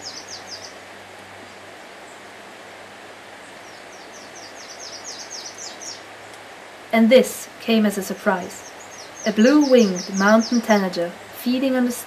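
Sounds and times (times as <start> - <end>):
forest background hiss: 0.0 - 12.0.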